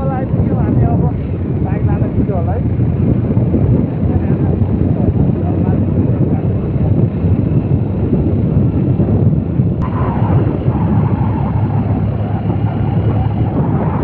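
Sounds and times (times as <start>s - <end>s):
vehicle engine and road noise: 0.0s - 14.0s
wind rumble on microphone: 0.0s - 14.0s.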